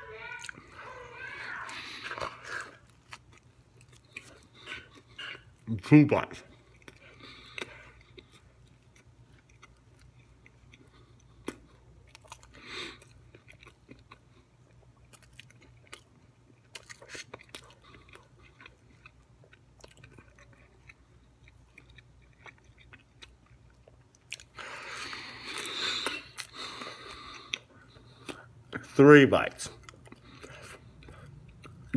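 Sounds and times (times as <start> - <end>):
person chewing: 0.0 - 29.0, 29.7 - 31.9.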